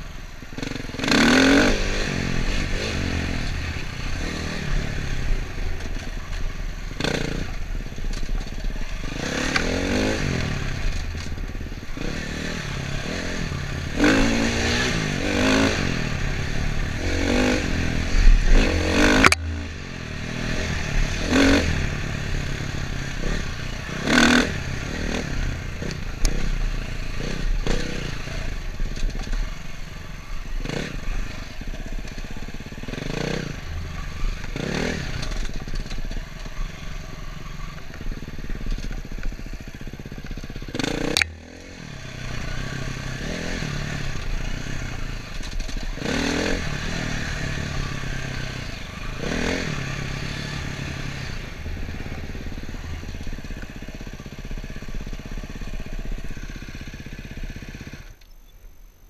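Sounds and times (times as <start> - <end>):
dirt bike engine revving: 0.0 - 58.2.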